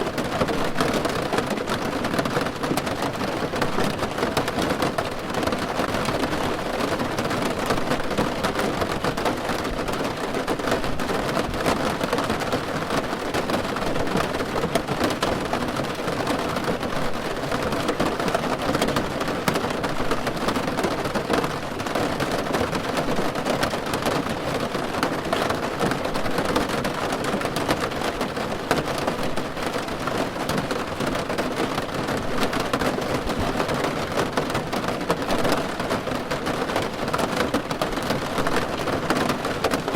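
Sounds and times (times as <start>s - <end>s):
rain drumming on a car roof: 0.0s - 39.9s.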